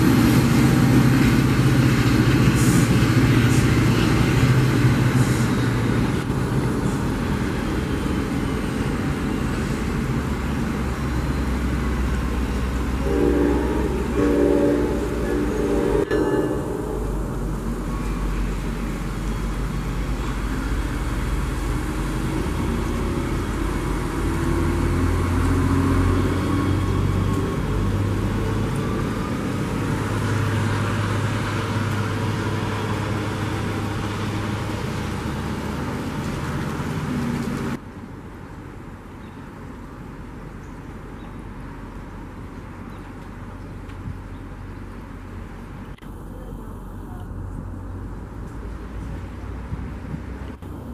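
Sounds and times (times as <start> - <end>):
train rumbling: 0.0 - 39.1, 41.6 - 50.9
diesel locomotive engine drone: 0.0 - 50.9.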